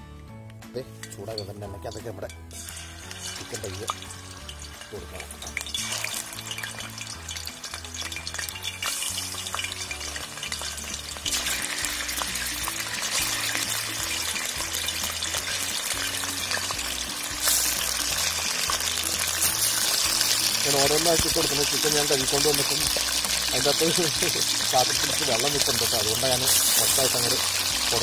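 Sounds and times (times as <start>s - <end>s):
chicken sizzling in hot oil: 2.5s - 28.0s.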